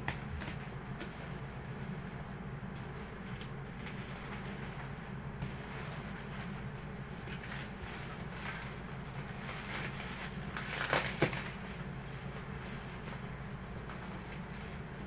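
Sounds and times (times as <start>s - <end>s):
bubble wrap crinkling: 0.0s - 15.0s
steady low hum: 0.0s - 15.0s.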